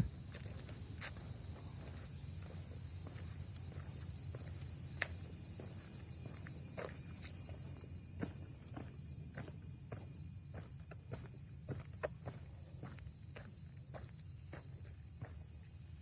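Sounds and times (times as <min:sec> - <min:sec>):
footsteps crunching on ground: 0:00.0 - 0:15.9
high-pitched insect chorus: 0:00.0 - 0:16.0.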